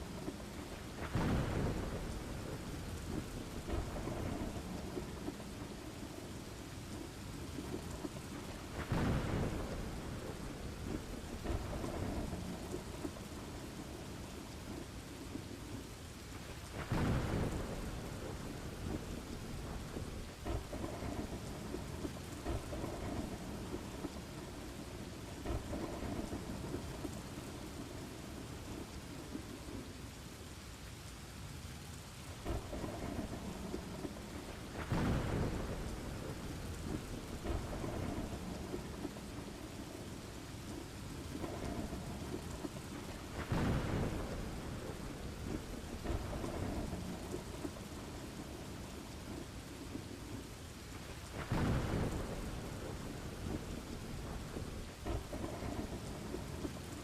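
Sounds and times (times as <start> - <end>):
rolling thunder: 0.0 - 15.5, 16.4 - 29.8, 32.4 - 57.0
rain hissing: 0.0 - 57.0.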